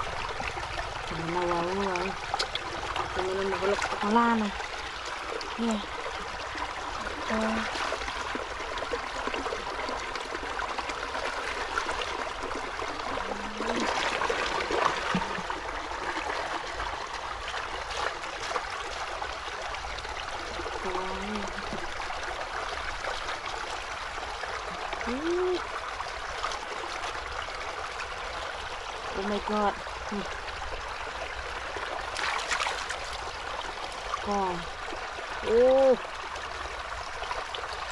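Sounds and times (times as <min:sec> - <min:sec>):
water trickling in ditch: 0:00.0 - 0:37.9.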